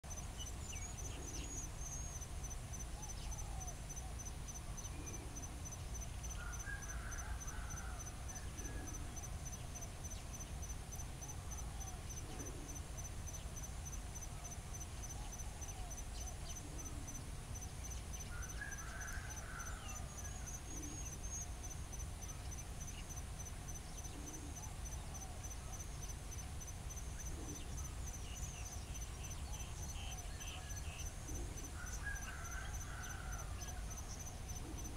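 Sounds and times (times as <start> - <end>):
insect chirping: 0.0 - 34.9.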